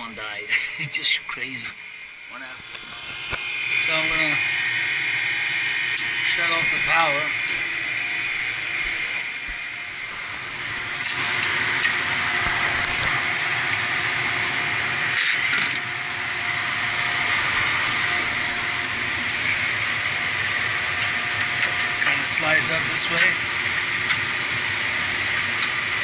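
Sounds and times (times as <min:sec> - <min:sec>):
machinery hum and hiss: 0:00.0 - 0:26.0.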